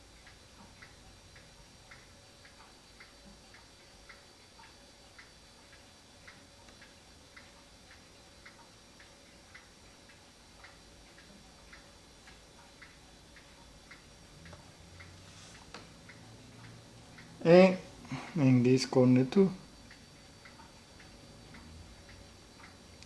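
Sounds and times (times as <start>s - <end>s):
faint steady hum: 0.0s - 23.0s
mechanical clock ticking: 0.0s - 23.0s.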